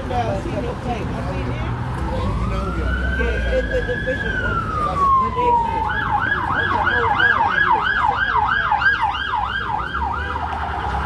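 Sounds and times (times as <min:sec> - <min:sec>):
emergency vehicle siren: 0:01.7 - 0:11.0.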